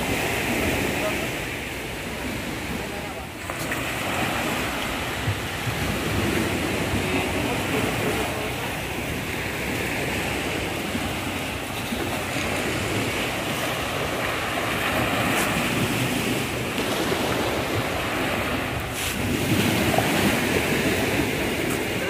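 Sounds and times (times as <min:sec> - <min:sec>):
sea waves washing ashore: 0:00.0 - 0:22.0
wind on microphone: 0:00.0 - 0:22.0.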